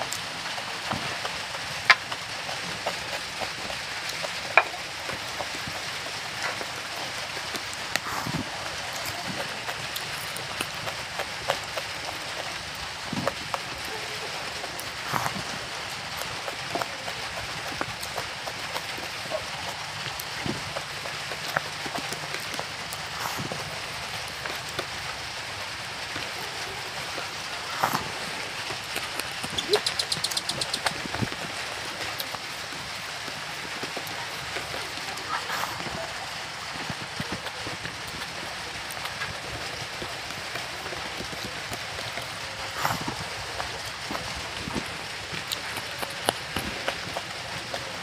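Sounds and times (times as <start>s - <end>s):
fingers mixing food wet clicks: 0.0s - 48.0s
mouthful being eaten: 0.0s - 48.0s
steady hiss: 0.0s - 48.0s.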